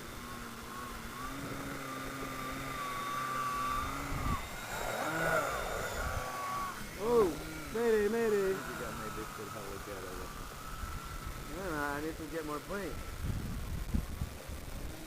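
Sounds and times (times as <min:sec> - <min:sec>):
rc helicopter motor whine: 0:00.0 - 0:15.0.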